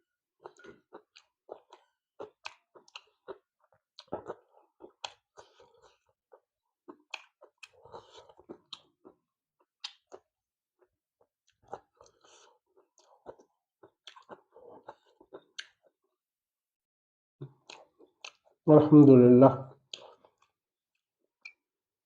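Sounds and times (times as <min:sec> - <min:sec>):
person chewing food: 0:00.4 - 0:16.2, 0:17.4 - 0:18.6, 0:19.7 - 0:21.8.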